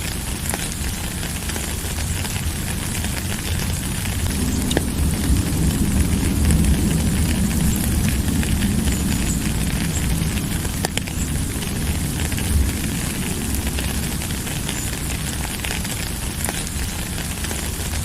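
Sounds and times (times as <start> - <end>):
low even rumble: 0.0 - 18.0
steady rain falling: 0.0 - 18.0.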